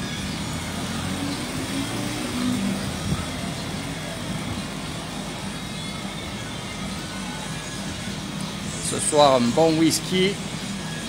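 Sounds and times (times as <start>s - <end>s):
aerator mechanical hum: 0.0s - 11.0s.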